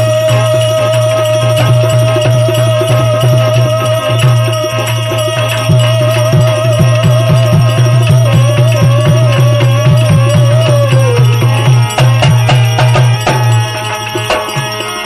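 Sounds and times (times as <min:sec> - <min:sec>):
hand drum beat: 0:00.0 - 0:15.0
wavering melody: 0:00.0 - 0:15.0.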